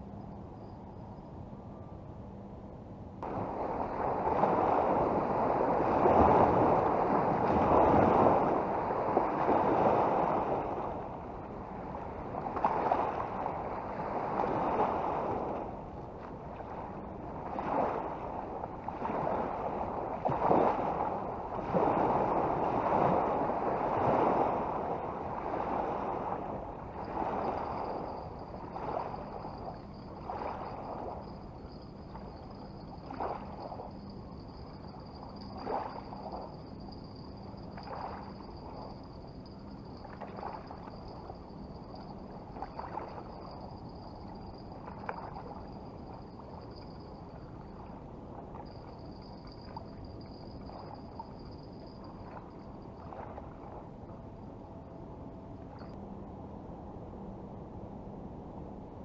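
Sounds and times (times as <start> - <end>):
river water lapping and splashing: 3.2 - 54.2.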